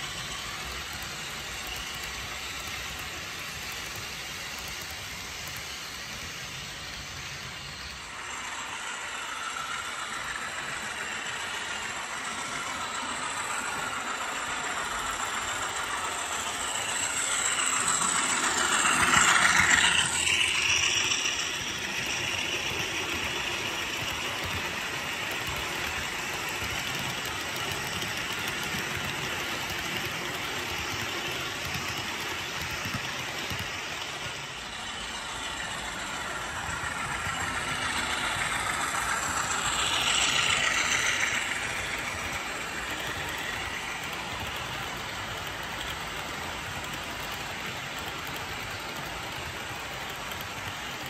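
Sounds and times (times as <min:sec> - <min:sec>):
model freight cars rolling on track: 0:00.0 - 0:51.0
model train diesel engine sound: 0:00.0 - 0:51.0.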